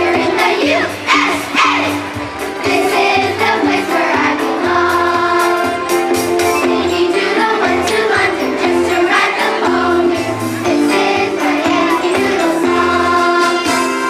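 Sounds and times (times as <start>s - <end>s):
choir singing with accompaniment: 0.0s - 14.0s.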